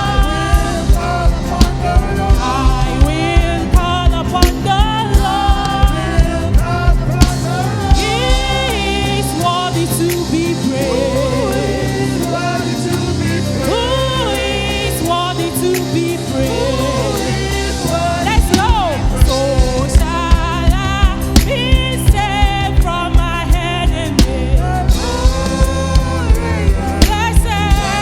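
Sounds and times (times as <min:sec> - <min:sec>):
keyboard and bass chords: 0:00.0 - 0:28.0
steady drum beat: 0:00.0 - 0:28.0.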